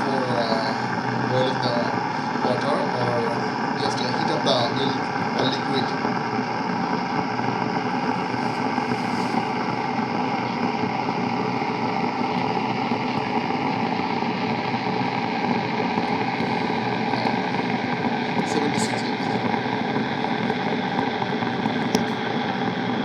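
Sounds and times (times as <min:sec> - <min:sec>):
electric kettle heating water: 0:00.0 - 0:23.0.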